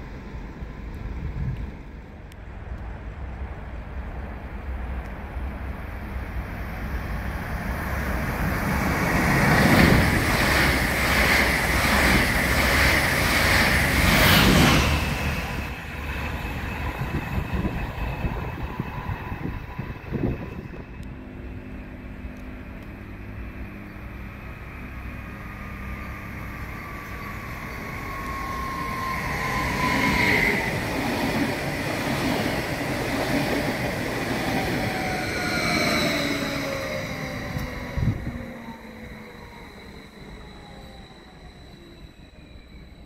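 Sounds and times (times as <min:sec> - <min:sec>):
train rumble: 0:00.0 - 0:43.0
train wheels rumbling: 0:00.0 - 0:43.0.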